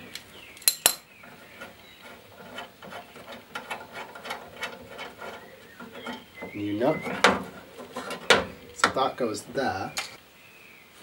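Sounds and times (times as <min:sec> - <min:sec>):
light metal scraping: 0:00.7 - 0:09.6.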